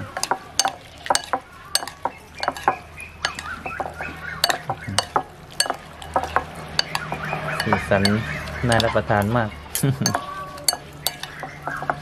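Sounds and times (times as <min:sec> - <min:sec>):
metal spoon clinking on ceramic bowl: 0:00.1 - 0:09.3, 0:10.0 - 0:12.0.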